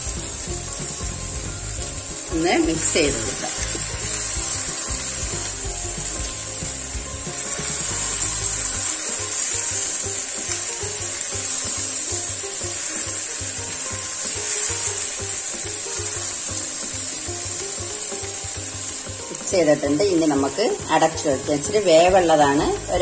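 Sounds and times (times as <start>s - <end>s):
soft background music with beat: 0.0s - 23.0s
squid sizzling in a pan: 0.0s - 23.0s.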